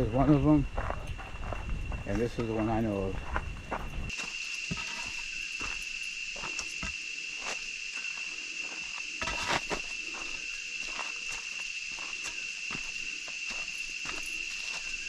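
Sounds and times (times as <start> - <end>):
footsteps on a trail: 0.0 - 15.0
high-pitched insect drone: 0.0 - 15.0.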